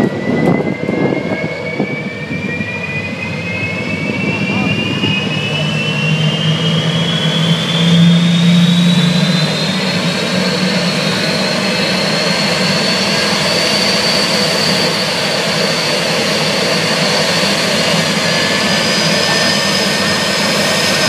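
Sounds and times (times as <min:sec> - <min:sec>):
jet engine high whine: 0:00.0 - 0:21.0
jet engine rushing roar: 0:00.0 - 0:21.0
low hum: 0:00.0 - 0:21.0.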